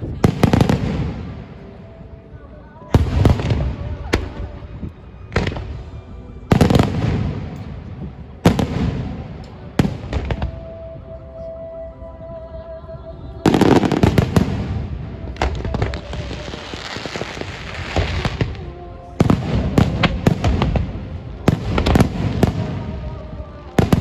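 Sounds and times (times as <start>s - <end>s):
fireworks bangs and crackling: 0.0s - 1.8s, 2.9s - 10.7s, 13.4s - 24.0s.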